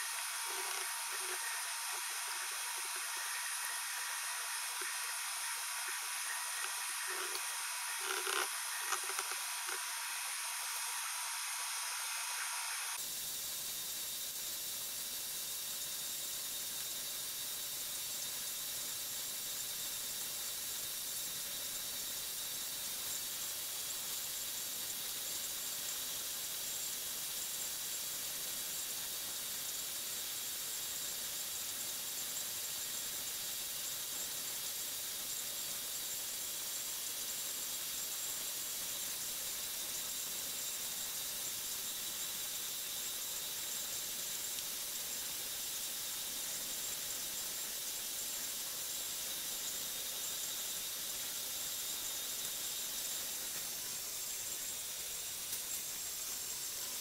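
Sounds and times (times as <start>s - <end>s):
steady hissing noise: 0.0s - 57.0s.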